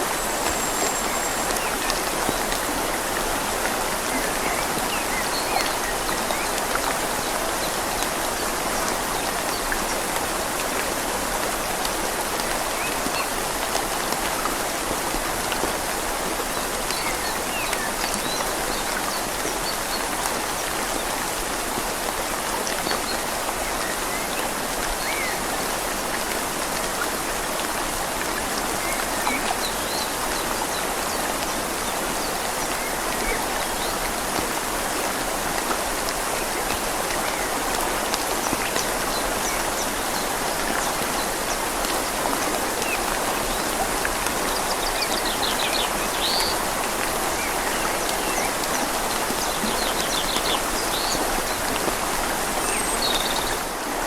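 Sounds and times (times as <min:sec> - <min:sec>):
rain falling on leaves: 0:00.0 - 0:54.0
river flowing gently: 0:00.0 - 0:54.0.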